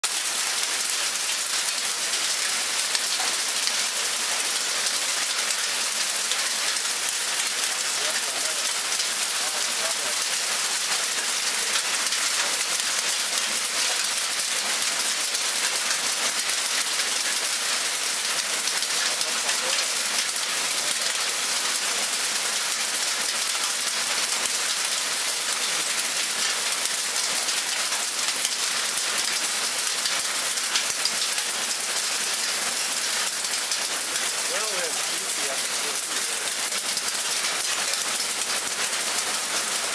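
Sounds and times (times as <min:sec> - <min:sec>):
heavy rain and hail on flooded ground: 0:00.0 - 0:39.9.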